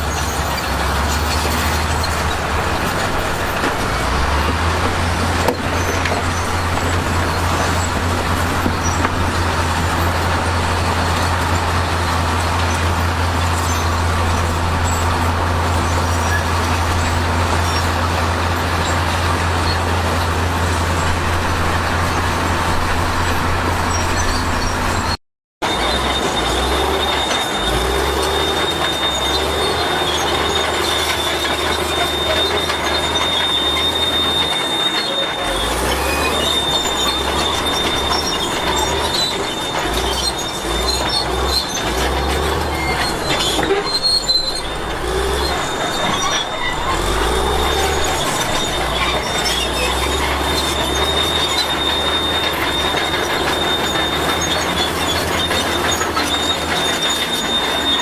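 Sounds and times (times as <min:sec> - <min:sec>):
bulldozer diesel engine running: 0:00.0 - 0:58.0
steel crawler tracks squealing: 0:00.0 - 0:58.0.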